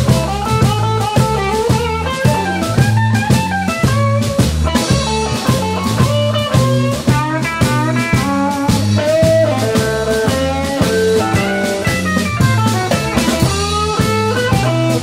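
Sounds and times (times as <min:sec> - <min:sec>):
bass guitar: 0:00.0 - 0:15.0
drum kit shuffle rhythm: 0:00.0 - 0:15.0
electric guitar solo: 0:00.0 - 0:15.0.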